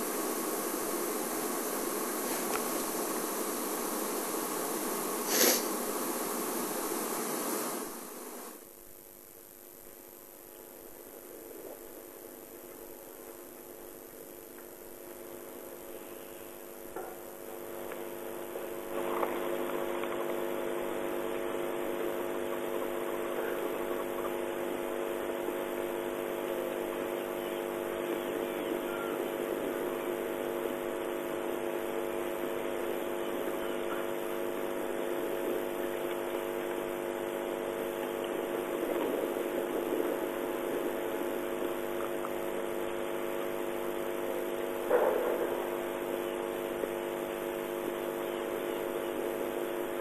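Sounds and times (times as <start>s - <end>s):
steady tonal hum over hiss: 0.0s - 50.0s.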